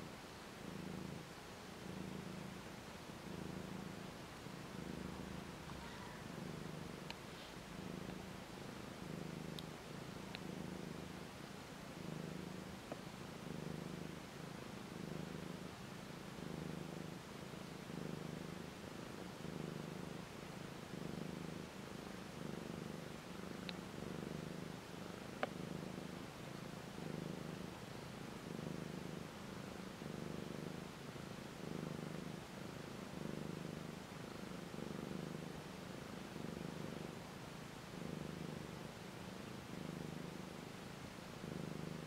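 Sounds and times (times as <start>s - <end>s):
cat purring: 0.0s - 42.0s.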